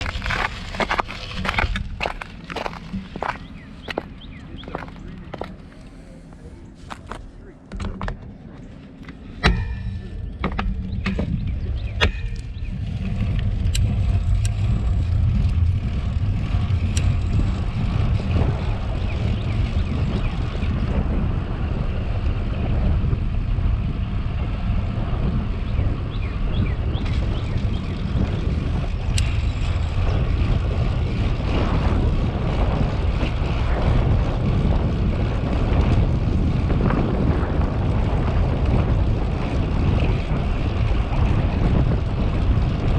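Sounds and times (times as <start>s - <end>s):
wind rushing over microphone: 0.0s - 42.9s.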